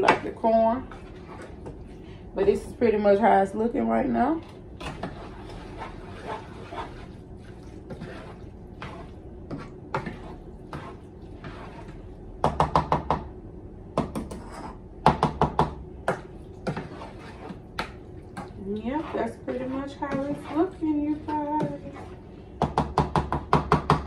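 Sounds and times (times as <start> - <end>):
spoon stirring in a saucepan: 0.0 - 13.1, 16.0 - 23.9.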